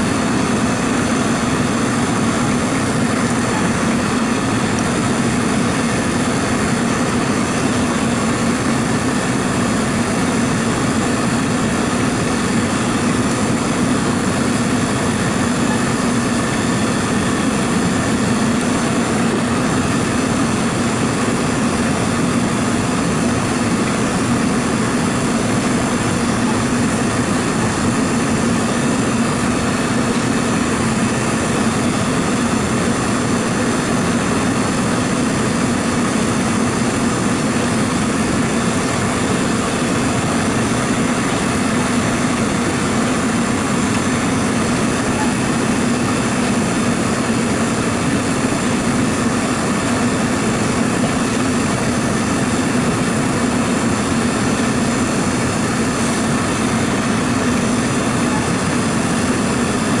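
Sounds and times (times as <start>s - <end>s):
loud mechanical drone: 0.0s - 60.0s.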